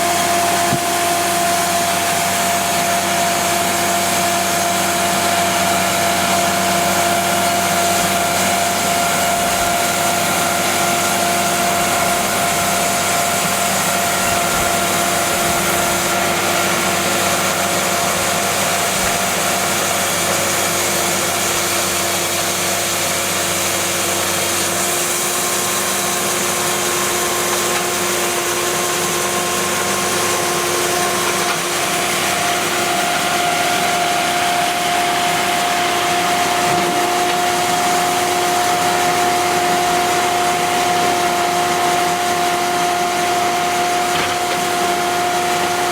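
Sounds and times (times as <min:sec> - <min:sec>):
bandsaw mill running: 0:00.0 - 0:45.9
constant machine whine: 0:00.0 - 0:45.9.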